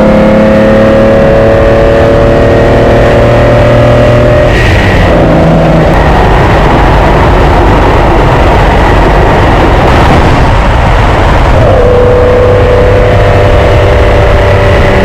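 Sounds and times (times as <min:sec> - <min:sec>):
car engine running rough: 0:00.0 - 0:15.0.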